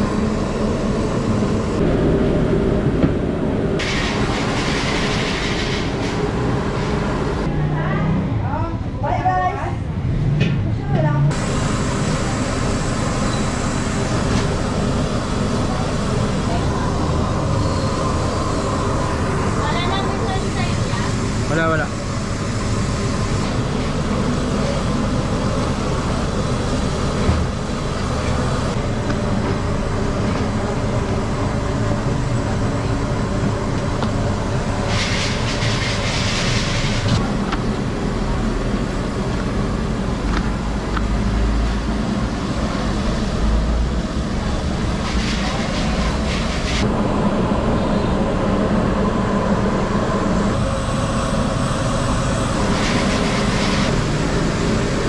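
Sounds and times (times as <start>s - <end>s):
gas burners rumbling: 0.0s - 55.0s.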